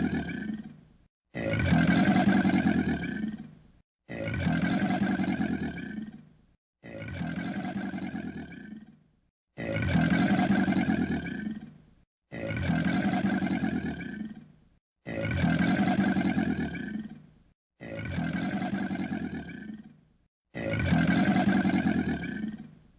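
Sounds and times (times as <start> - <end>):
recorded animal roar: 0.0 - 22.8.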